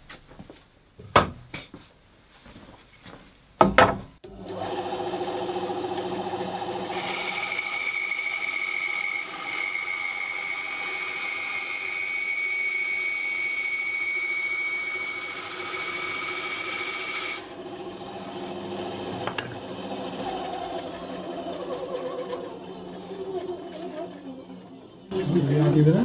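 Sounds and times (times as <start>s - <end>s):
bandsaw cutting wood: 4.2s - 26.0s.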